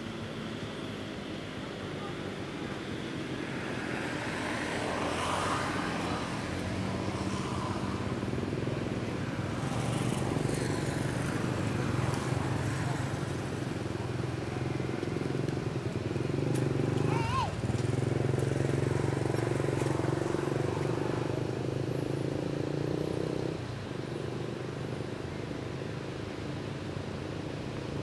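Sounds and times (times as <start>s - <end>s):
vehicle engine humming: 0.0s - 27.8s
outdoor background noise: 0.0s - 28.0s.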